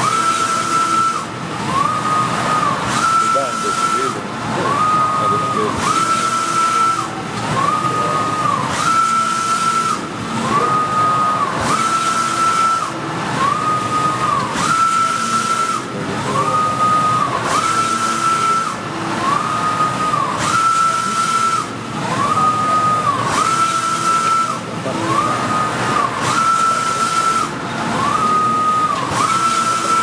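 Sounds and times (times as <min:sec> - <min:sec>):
printer carriage whine: 0:00.0 - 0:30.0.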